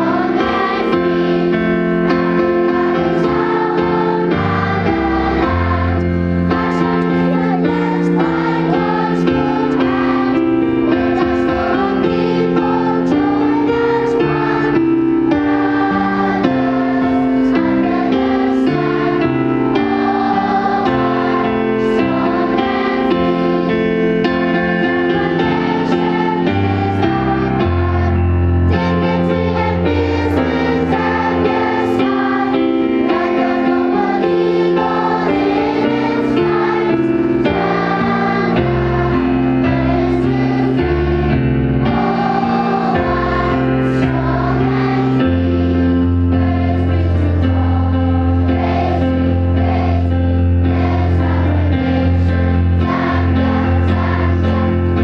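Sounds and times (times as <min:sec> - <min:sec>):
choir singing: 0:00.0 - 0:55.0
instrumental accompaniment: 0:00.0 - 0:55.0.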